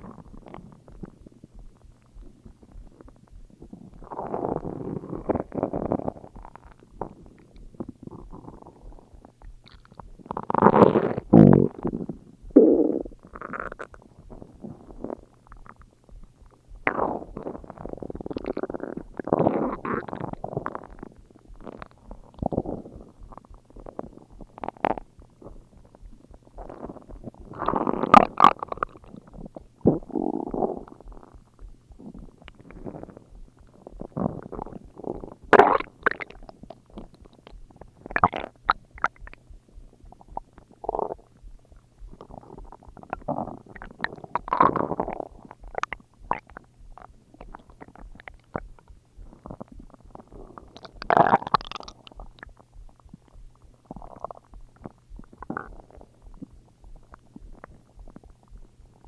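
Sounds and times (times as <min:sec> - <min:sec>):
stomach growling and gurgling: 0:00.0 - 0:59.0.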